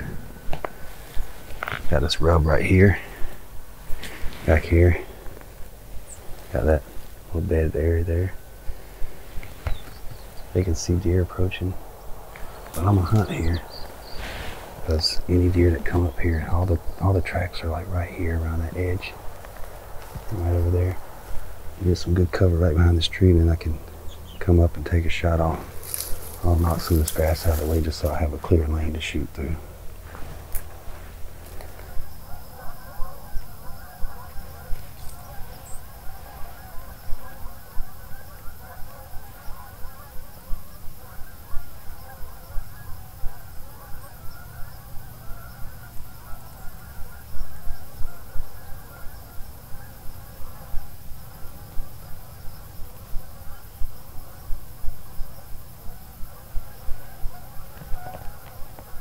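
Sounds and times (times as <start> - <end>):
geese honking and gabbling: 0.0 - 59.0.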